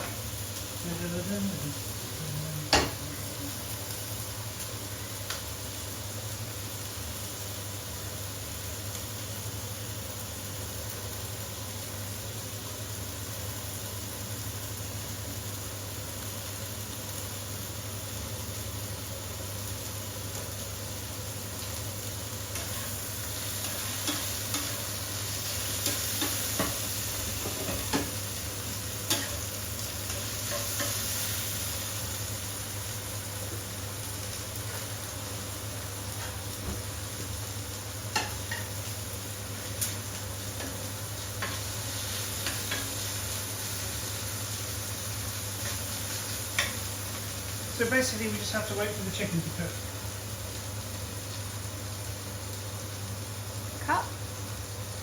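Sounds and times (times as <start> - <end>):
chicken sizzling in a frying pan: 0.0 - 55.0.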